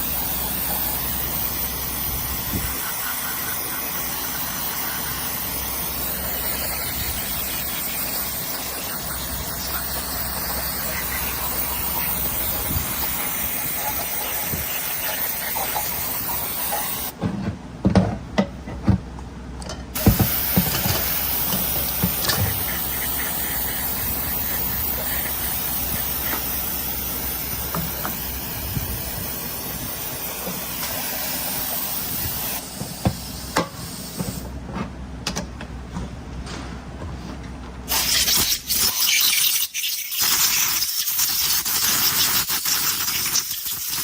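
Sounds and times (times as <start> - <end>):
pressurised spray hissing: 0.0 - 17.1, 20.0 - 34.4, 37.9 - 44.0.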